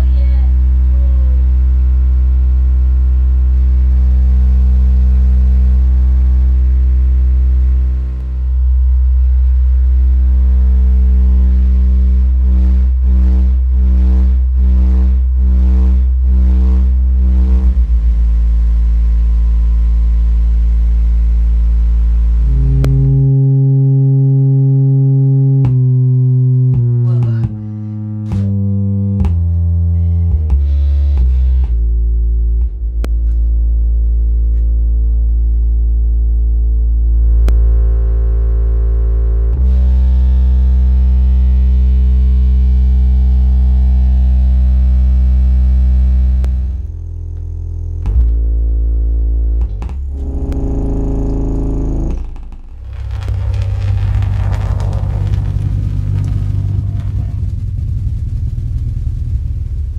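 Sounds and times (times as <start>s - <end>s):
deep bass drone: 0.0s - 59.9s.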